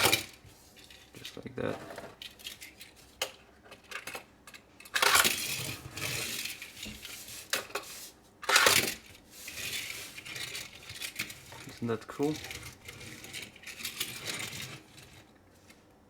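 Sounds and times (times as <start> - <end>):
toy cars clattering on plastic case: 0.0 - 15.3.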